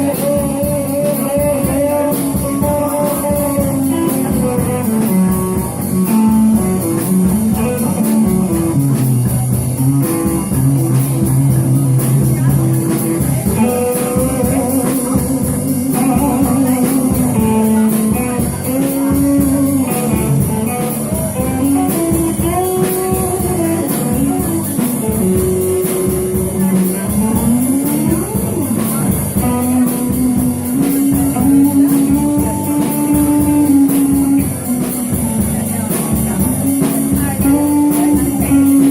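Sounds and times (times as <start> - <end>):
blues-rock song with singing: 0.0 - 38.9.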